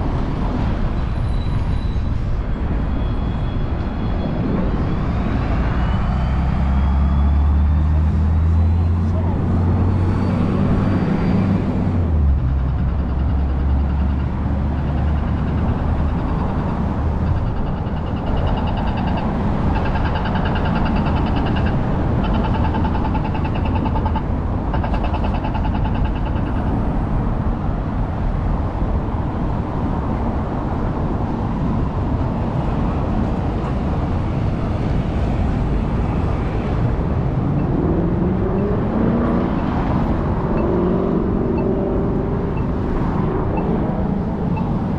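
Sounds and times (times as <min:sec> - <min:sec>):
city street traffic: 0:00.0 - 0:44.9
vehicle accelerating: 0:04.2 - 0:28.6, 0:29.8 - 0:44.9.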